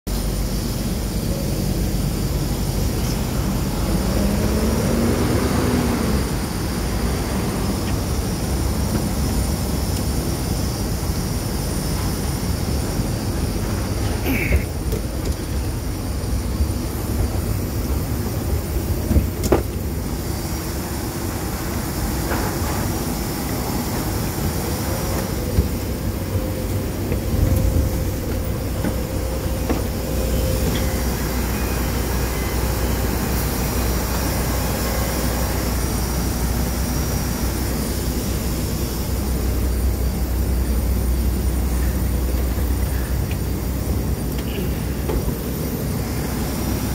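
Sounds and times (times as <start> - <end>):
aircraft rumble and whine: 0.1 - 46.9.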